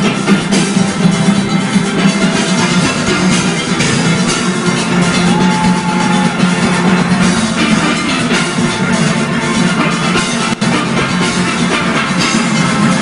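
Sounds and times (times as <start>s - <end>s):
drum kit and percussion beat: 0.0s - 13.0s
steel pans playing melody: 0.0s - 13.0s.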